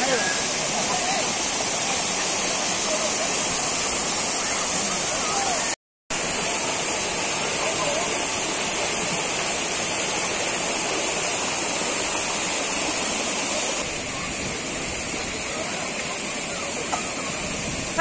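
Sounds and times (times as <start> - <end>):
stream rushing over boulders: 0.0 - 18.0.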